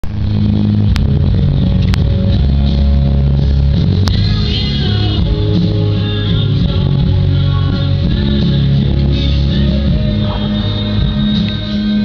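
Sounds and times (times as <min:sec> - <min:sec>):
low bass notes: 0:00.0 - 0:12.0
rock music with guitar: 0:00.0 - 0:12.0.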